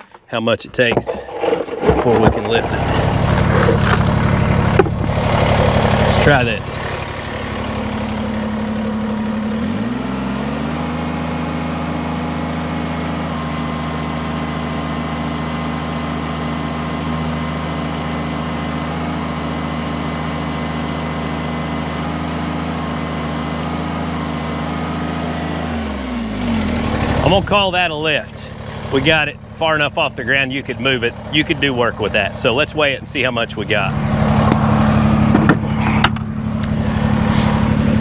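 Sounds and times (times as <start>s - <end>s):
tractor diesel engine revving: 1.0s - 38.0s.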